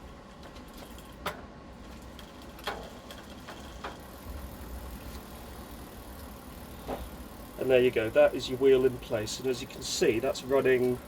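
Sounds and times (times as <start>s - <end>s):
bicycle drivetrain spinning: 0.0s - 11.0s.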